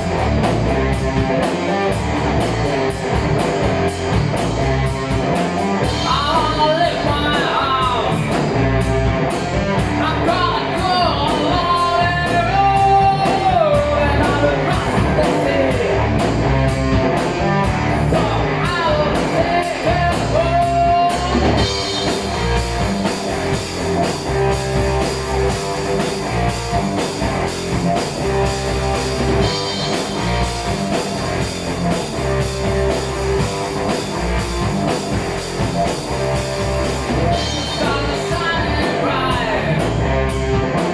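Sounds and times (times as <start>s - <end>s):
heavy metal band playing live: 0.0s - 40.9s
wavering guitar lead melody: 0.0s - 40.9s.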